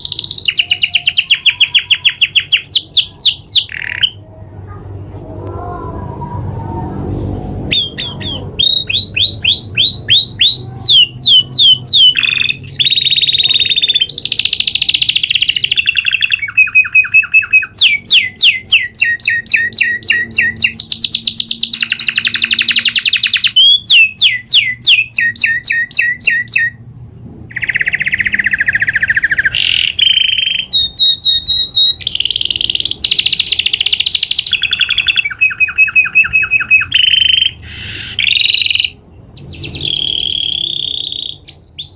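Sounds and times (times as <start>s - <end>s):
canary singing trills: 0.0s - 5.2s, 7.2s - 26.8s, 27.5s - 41.9s.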